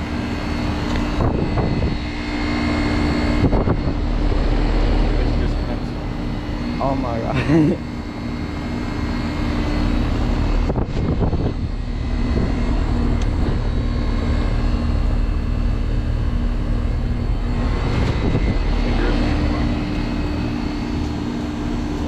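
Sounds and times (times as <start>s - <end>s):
broad rushing roar: 0.0s - 22.0s
heat pump units humming: 0.0s - 22.0s.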